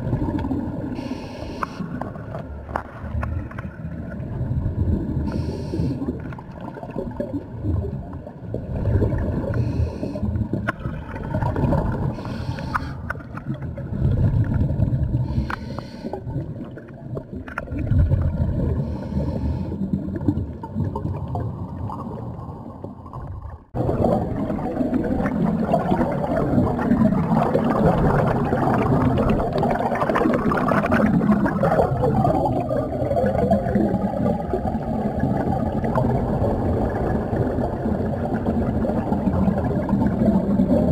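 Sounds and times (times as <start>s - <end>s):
underwater bubbling of exhaled air: 0.0s - 40.9s.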